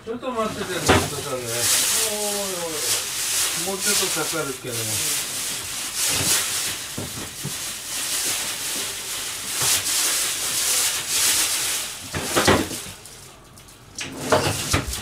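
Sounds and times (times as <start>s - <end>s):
rubbing and scraping on counter: 0.4s - 13.0s, 14.0s - 15.0s.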